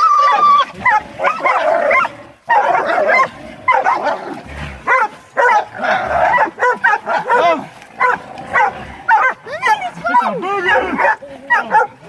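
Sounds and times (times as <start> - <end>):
dogs barking in loud bursts: 0.0 - 12.0.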